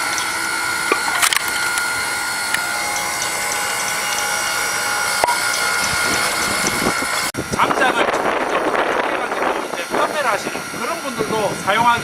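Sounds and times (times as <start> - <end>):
log splitter motor whine: 0.0 - 12.0.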